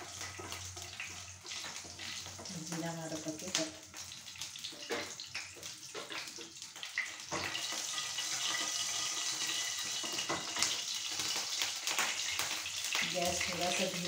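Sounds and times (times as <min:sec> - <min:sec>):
seeds sizzling in hot oil: 0:00.0 - 0:14.0.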